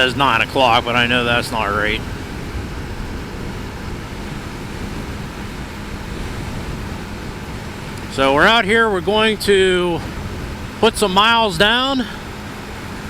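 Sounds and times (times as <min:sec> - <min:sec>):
faint motorcycle engine hum: 0:00.0 - 0:13.0
wind rushing: 0:00.0 - 0:13.0.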